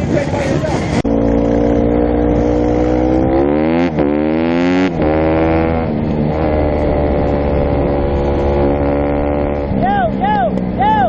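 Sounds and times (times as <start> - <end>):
dirt bike engine accelerating: 0.0 - 11.0.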